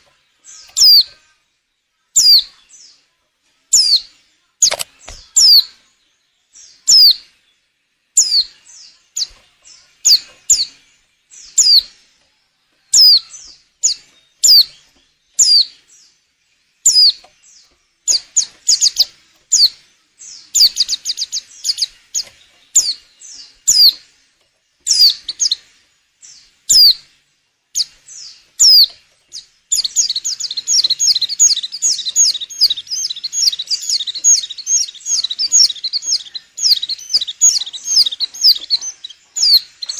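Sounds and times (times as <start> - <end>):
bird chirping and twittering: 0.0 - 39.9.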